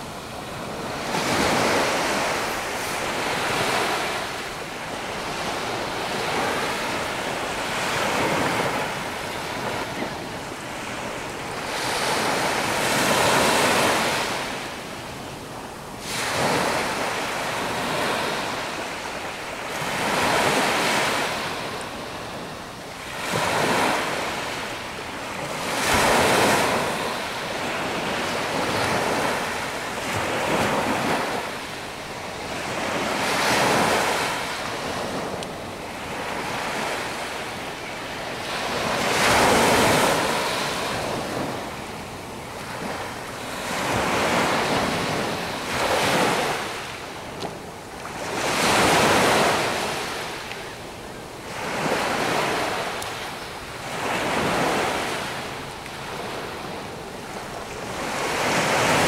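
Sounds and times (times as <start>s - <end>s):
small waves breaking on sand: 0.0s - 59.0s.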